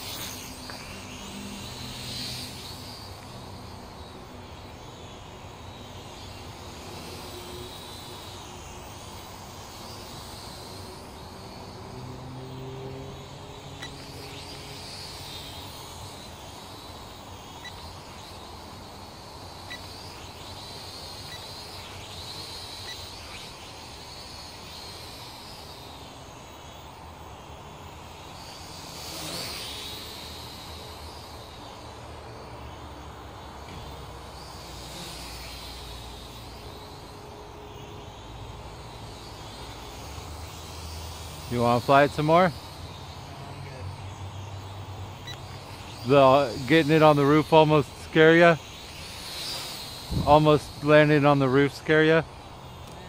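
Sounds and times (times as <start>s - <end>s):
toy drone motors whining: 0.0s - 53.0s.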